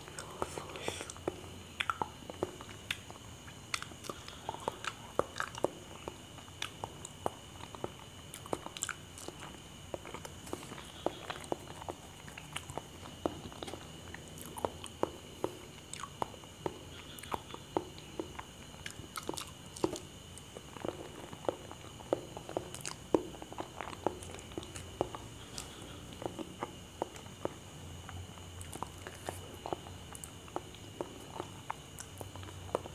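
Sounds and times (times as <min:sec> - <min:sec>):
person chewing with mouth smacks: 0:00.0 - 0:32.9.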